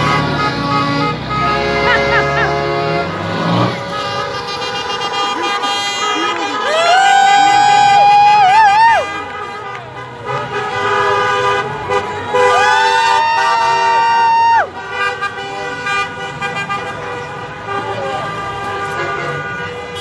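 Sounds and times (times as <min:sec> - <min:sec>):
loud long horn blast: 0:00.0 - 0:20.0
vehicle horns honking: 0:00.0 - 0:20.0.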